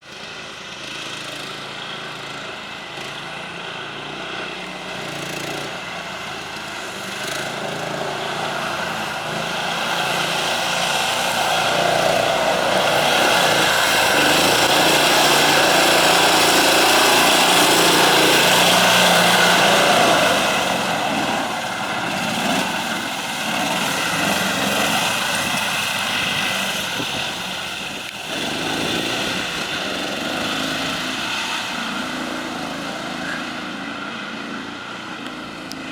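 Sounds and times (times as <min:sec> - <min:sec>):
small engine droning: 0:00.0 - 0:35.9.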